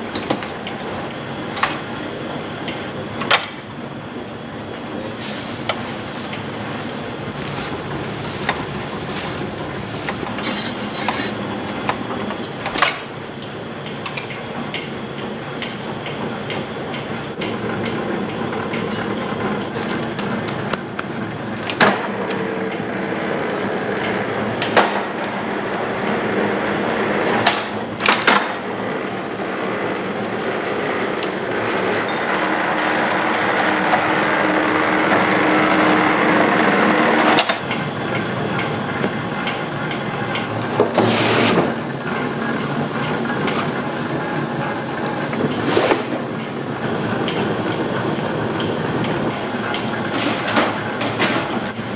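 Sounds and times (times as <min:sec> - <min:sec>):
machinery running: 0:00.0 - 0:51.9.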